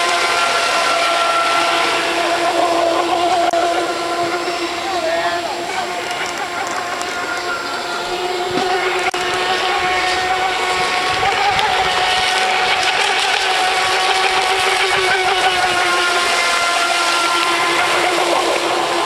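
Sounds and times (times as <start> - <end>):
high-pitched motor whine: 0.0 - 19.0.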